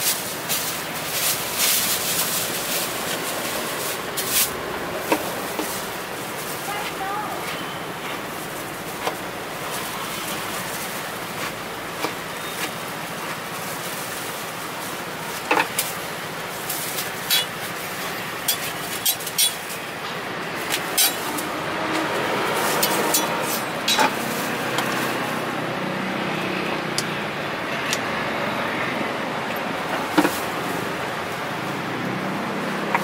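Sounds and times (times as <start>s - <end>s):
street background hum: 0.0s - 33.0s.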